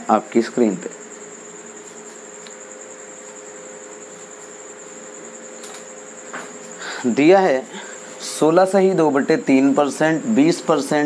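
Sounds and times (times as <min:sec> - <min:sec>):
room hiss: 0:00.0 - 0:11.0.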